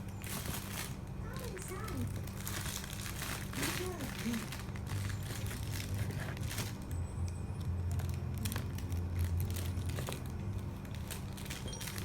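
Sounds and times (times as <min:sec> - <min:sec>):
steady low hum: 0:00.0 - 0:12.0
plastic bag crinkling: 0:00.2 - 0:01.1, 0:01.9 - 0:06.8, 0:07.9 - 0:12.0.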